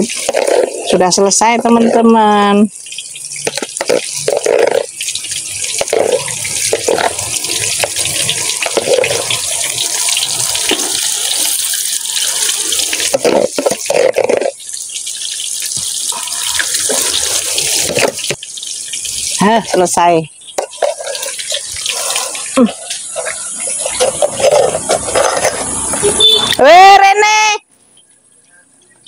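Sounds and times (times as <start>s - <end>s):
deep-frying sizzle: 0.0s - 26.6s.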